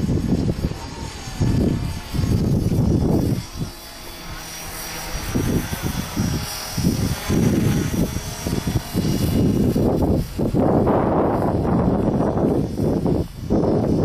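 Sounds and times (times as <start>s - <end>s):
rc helicopter whine: 0.0s - 14.0s
wind buffeting microphone: 0.0s - 14.0s.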